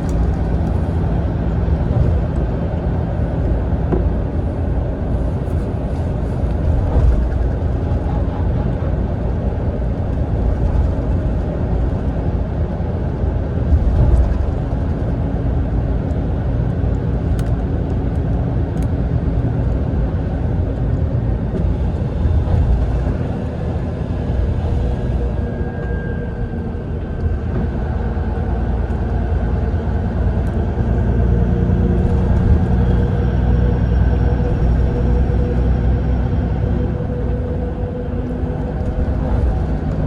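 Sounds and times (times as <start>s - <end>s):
engine and tyre rumble: 0.0s - 40.0s.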